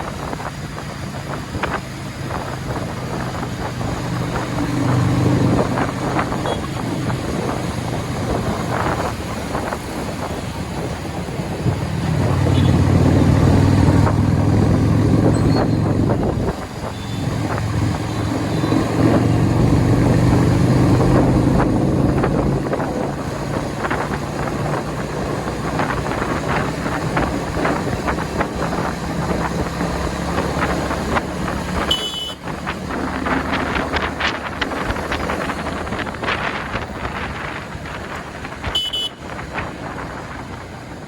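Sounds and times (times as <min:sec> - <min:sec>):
motorcycle engine running: 0:00.0 - 0:41.0
road noise: 0:00.0 - 0:41.0
wind buffeting microphone: 0:00.0 - 0:41.0.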